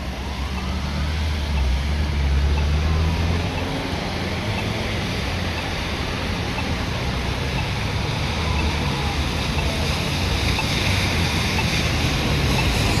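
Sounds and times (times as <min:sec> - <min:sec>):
distant fire engine siren: 0:00.0 - 0:13.0
rain and tyres on wet road: 0:00.0 - 0:13.0.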